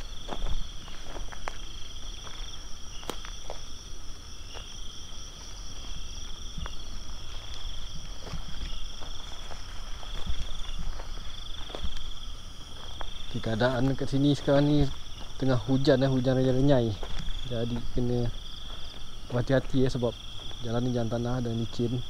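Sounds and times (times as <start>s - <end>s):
footsteps on dirt track: 0.0s - 22.0s
night insects chirring: 0.0s - 22.0s.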